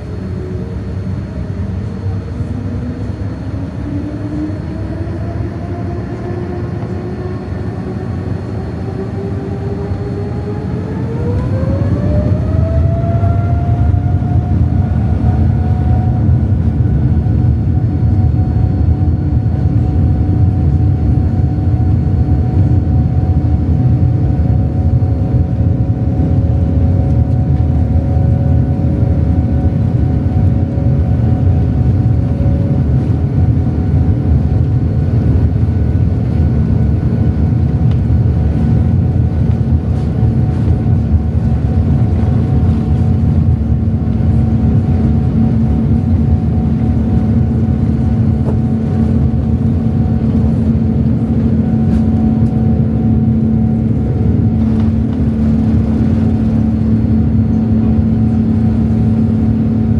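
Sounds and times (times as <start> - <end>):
jet engines rumbling with whine: 0.0 - 59.9.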